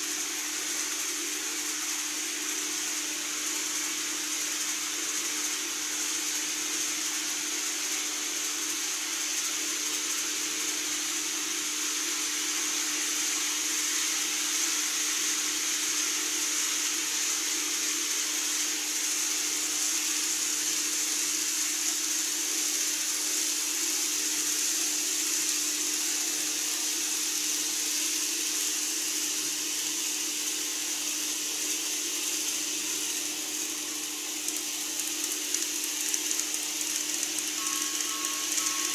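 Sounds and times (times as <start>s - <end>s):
model train whirring hum: 0.0s - 38.9s.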